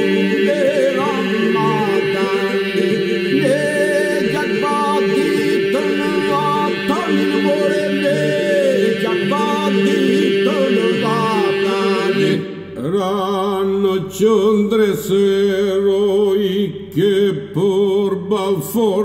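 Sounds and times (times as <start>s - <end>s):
men singing a cappella: 0.0s - 19.0s.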